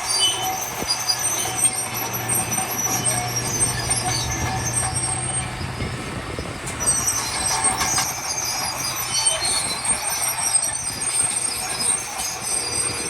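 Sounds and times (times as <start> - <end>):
bulldozer diesel engine running: 0.0 - 13.0
metallic squeals and clanks of tracks: 0.0 - 13.0.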